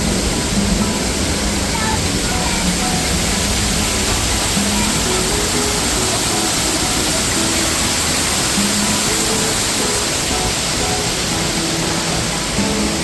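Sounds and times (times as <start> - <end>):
faint music: 0.0 - 13.0
waterfall rushing: 0.0 - 13.0.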